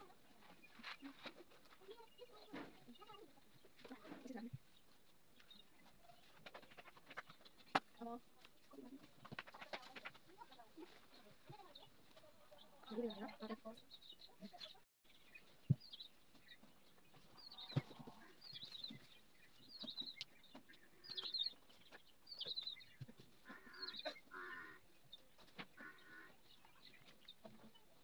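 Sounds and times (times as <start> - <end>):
faint bird chirping: 0.0 - 28.0.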